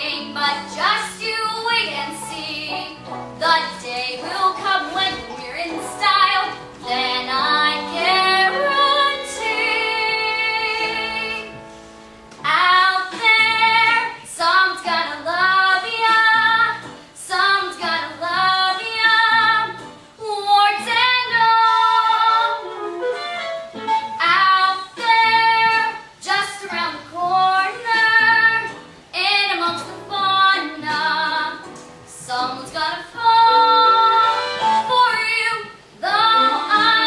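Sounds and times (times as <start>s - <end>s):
musical accompaniment: 0.0s - 37.0s.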